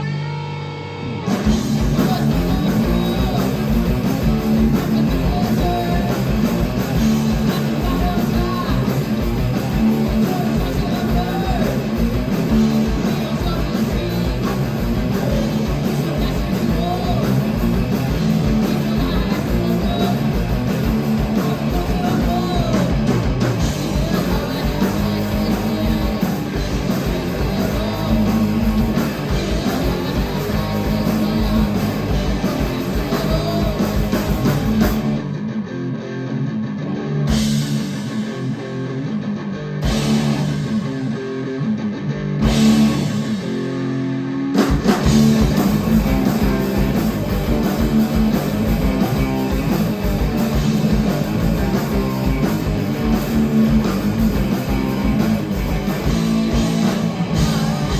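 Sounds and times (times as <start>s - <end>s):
bass guitar: 0.0s - 57.9s
distorted electric guitars: 0.0s - 57.9s
drum kit pounding: 1.2s - 35.3s, 37.3s - 38.6s, 39.8s - 41.4s, 42.4s - 57.9s.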